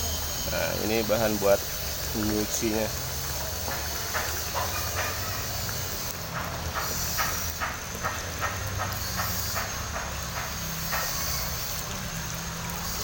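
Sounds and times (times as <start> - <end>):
water running into a container: 0.0 - 13.0.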